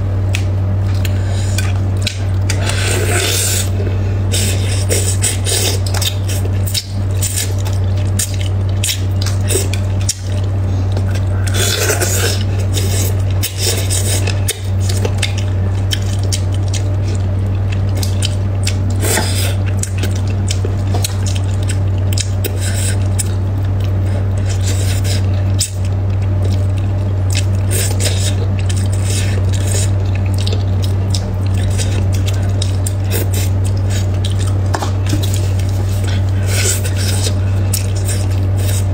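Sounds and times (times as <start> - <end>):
low hum: 0.0 - 38.9
wet chewing mouth sounds: 0.3 - 38.9.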